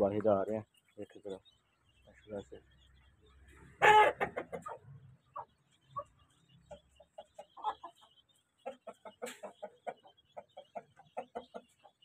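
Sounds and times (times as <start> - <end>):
hen clucking: 0.0 - 12.0.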